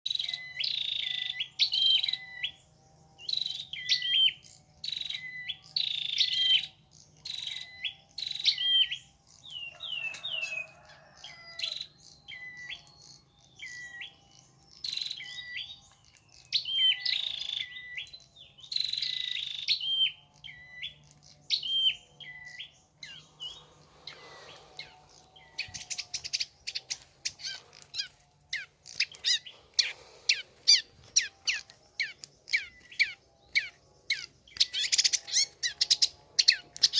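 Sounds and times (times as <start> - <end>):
birds chirping rapidly: 0.1 - 36.9.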